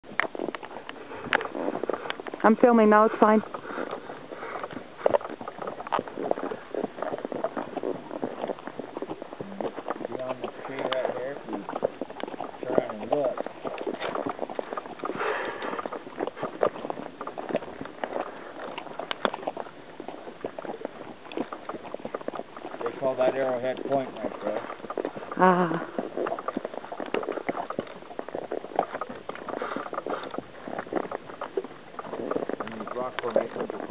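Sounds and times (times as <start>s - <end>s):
horse hooves clopping on gravel: 0.0s - 33.9s.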